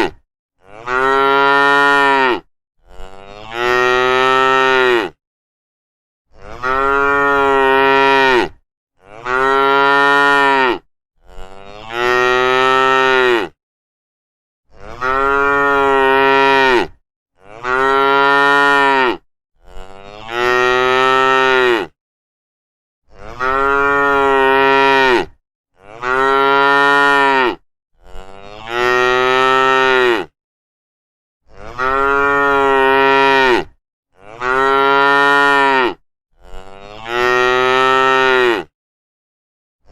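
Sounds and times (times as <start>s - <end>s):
cattle mooing: 0.6s - 5.2s, 6.4s - 13.6s, 14.8s - 21.9s, 23.2s - 30.3s, 31.5s - 38.7s.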